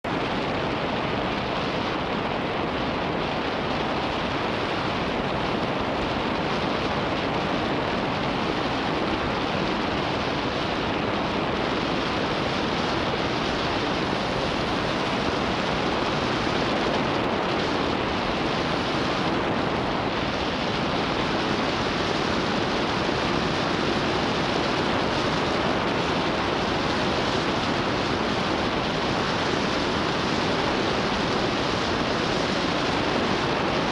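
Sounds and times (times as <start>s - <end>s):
wind and tyre noise: 0.0s - 33.9s.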